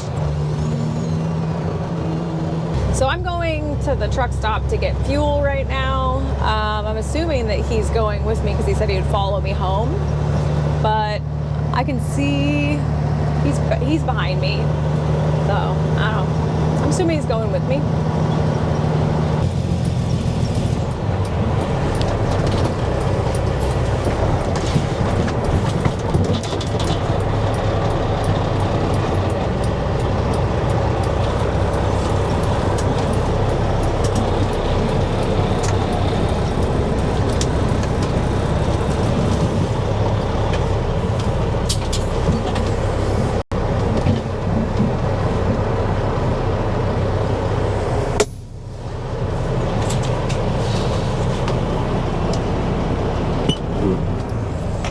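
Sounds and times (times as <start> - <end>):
truck engine and road noise: 0.0 - 54.9.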